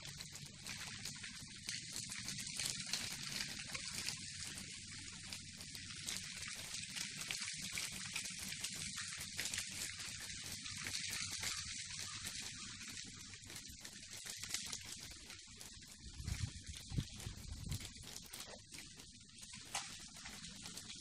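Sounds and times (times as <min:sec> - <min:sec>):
crackling patter of ice: 0:00.0 - 0:21.0.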